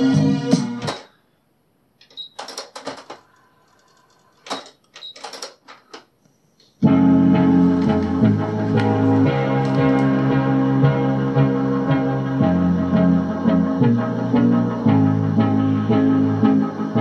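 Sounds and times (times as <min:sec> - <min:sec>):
cassette music: 0:00.0 - 0:01.3, 0:02.0 - 0:17.0.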